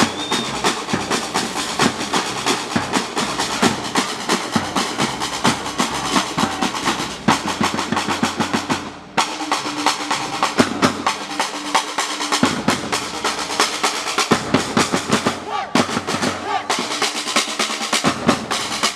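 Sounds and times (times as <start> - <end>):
percussion ensemble drumming: 0.0 - 18.9.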